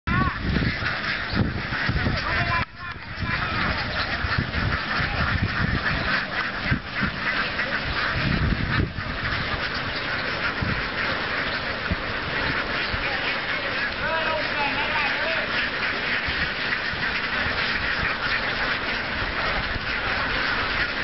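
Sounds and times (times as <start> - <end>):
ducks quacking: 0.1 - 21.0.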